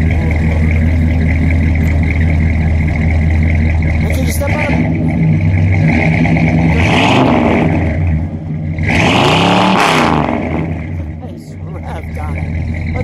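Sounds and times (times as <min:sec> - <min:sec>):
car engine idling: 0:00.0 - 0:13.0
car engine revving: 0:00.0 - 0:13.0.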